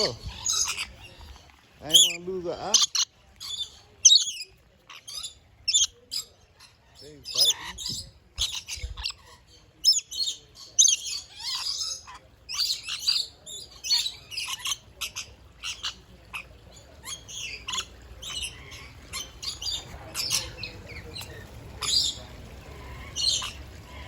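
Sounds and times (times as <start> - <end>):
parrots chirping and squawking: 0.0 - 24.0.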